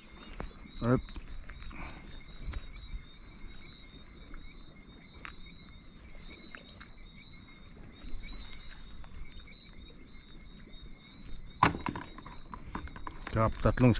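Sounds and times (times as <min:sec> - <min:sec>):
small frogs chirping: 0:00.0 - 0:13.9.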